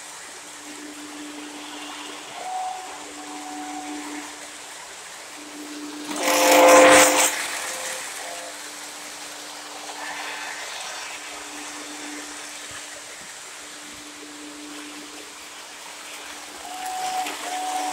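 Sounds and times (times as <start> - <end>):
model trains rolling: 0.0 - 17.9.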